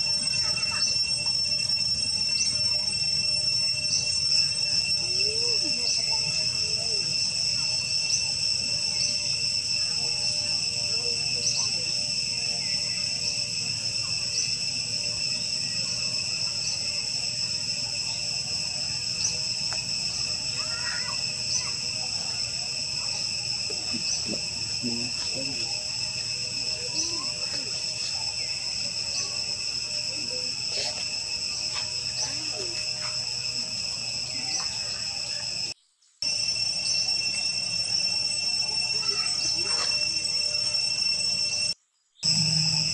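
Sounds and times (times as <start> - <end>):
high-pitched insect drone: 0.0 - 42.9.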